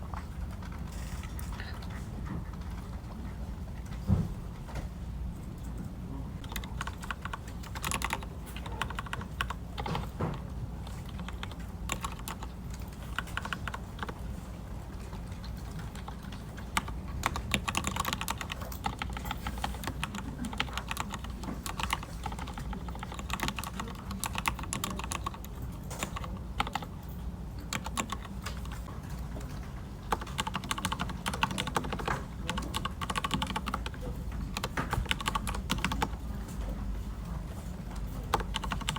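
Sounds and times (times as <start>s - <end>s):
keyboard typing: 0.0s - 3.2s, 6.4s - 27.0s, 27.6s - 38.9s
low room hum: 0.0s - 38.9s.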